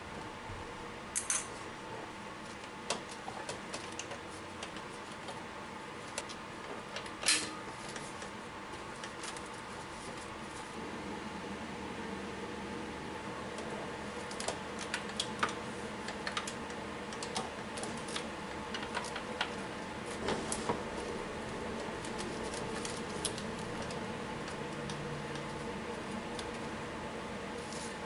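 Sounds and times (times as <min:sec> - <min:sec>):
faint hum: 0:00.0 - 0:28.0.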